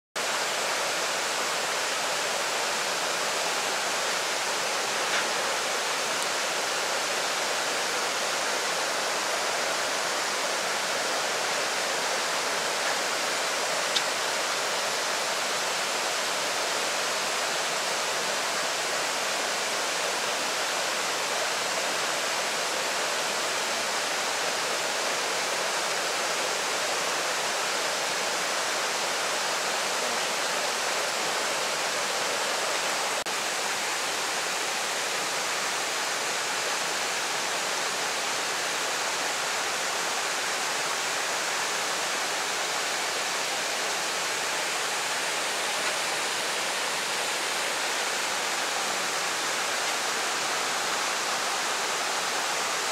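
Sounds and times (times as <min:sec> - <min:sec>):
waterfall rushing hiss: 0:00.2 - 0:52.9.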